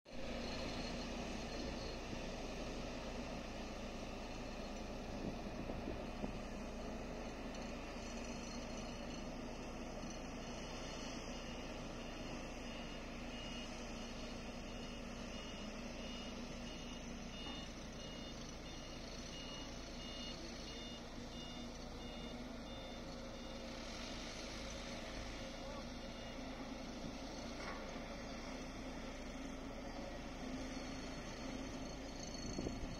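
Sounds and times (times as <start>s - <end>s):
diesel engines running: 0.1s - 32.9s
reversing alarm beeping: 0.2s - 28.6s.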